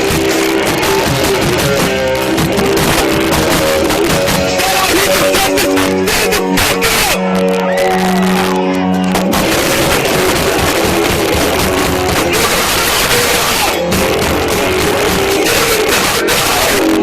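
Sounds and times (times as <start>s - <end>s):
distorted live rock band: 0.0s - 17.0s
guitars holding a chord: 0.0s - 17.0s.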